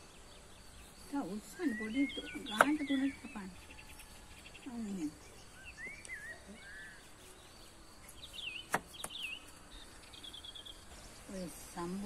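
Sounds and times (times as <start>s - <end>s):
birds calling and trilling: 0.0s - 12.0s.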